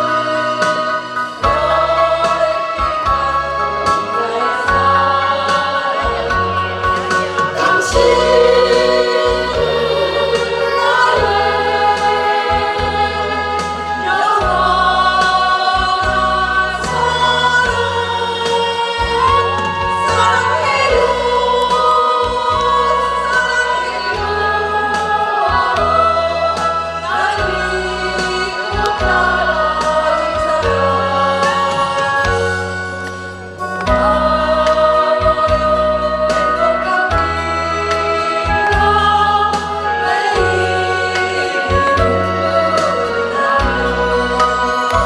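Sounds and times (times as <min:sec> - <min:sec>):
backing track with bass line: 0:00.0 - 0:45.0
women singing a ballad: 0:00.0 - 0:45.0.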